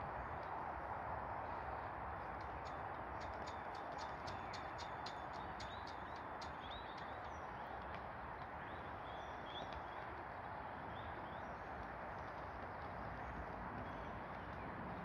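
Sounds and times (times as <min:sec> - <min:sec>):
steady rushing outdoor noise: 0:00.0 - 0:15.0
faint high ticks: 0:01.8 - 0:15.0
small birds chirping: 0:02.2 - 0:15.0.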